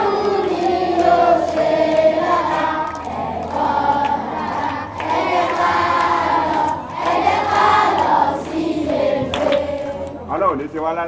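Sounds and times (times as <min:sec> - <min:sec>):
children singing in chorus: 0:00.0 - 0:10.2.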